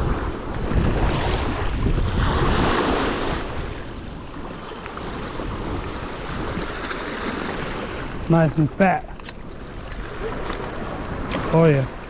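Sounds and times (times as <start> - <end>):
water lapping against rocky shore: 0.0 - 12.0
wind buffeting microphone: 0.0 - 12.0.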